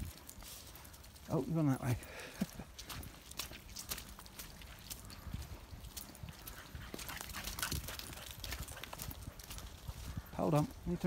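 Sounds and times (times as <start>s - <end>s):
footsteps on muddy track: 0.0s - 11.0s.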